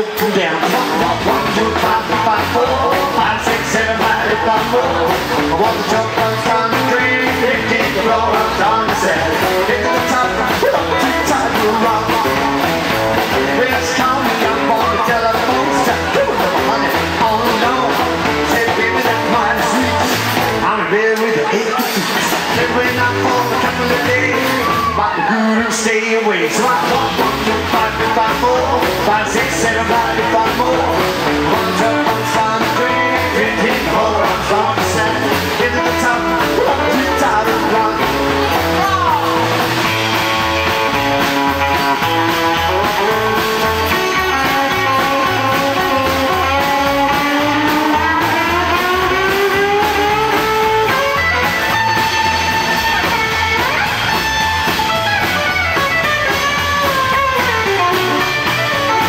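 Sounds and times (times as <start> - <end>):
live rock and roll band: 0.0 - 59.0.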